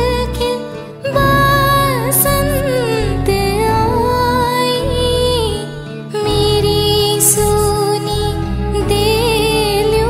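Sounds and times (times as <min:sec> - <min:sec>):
held melody with vibrato: 0:00.0 - 0:10.0.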